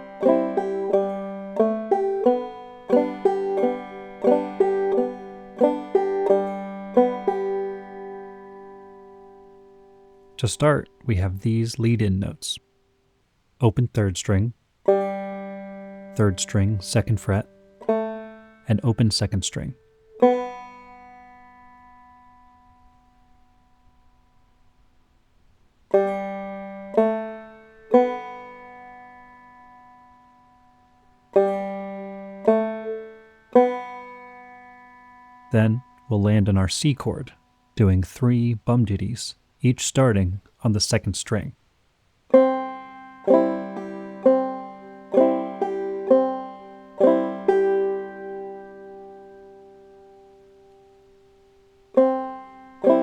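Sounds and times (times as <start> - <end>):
banjo notes ringing: 0.0 - 12.6, 14.2 - 24.8, 25.7 - 37.8, 42.3 - 53.0.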